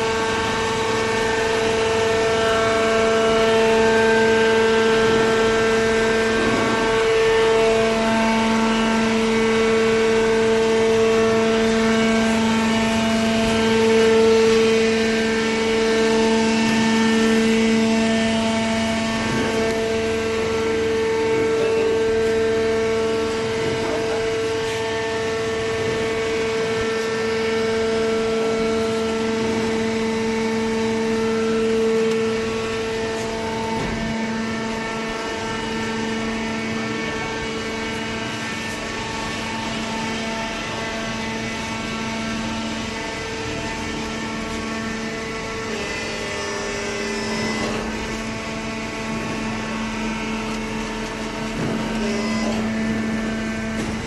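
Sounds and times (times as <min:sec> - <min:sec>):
hydraulic motor and pump hum: 0:00.0 - 0:54.0.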